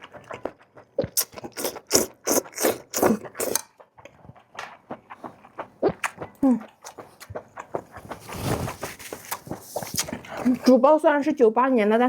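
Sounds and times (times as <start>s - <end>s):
crunchy chewing: 0.0s - 10.8s.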